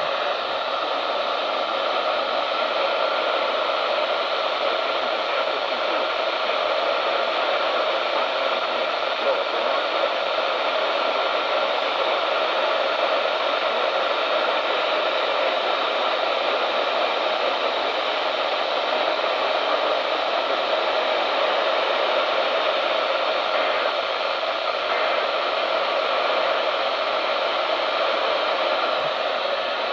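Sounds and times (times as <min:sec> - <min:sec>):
radio static hiss: 0:00.0 - 0:29.9.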